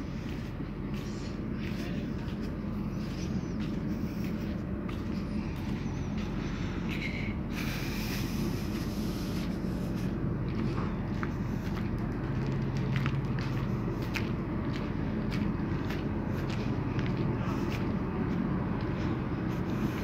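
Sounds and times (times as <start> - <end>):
footsteps on steel deck: 0.0 - 20.0
ship machinery rumble: 0.0 - 20.0.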